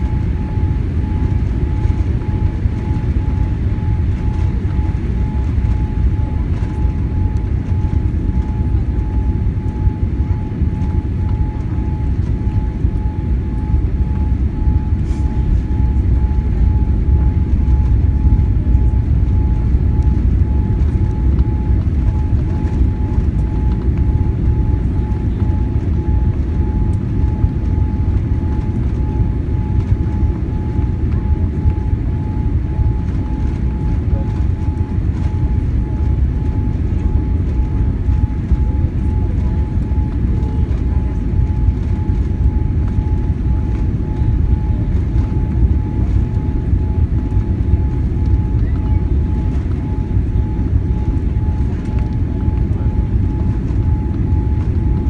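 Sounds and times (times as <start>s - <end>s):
aircraft cabin rumble: 0.0s - 55.0s
faint steady whine: 0.0s - 55.0s.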